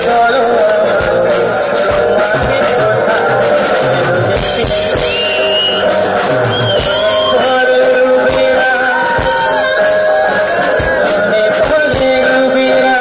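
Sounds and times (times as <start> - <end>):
man singing: 0.0 - 6.1, 6.7 - 13.0
drum kit: 0.0 - 13.0.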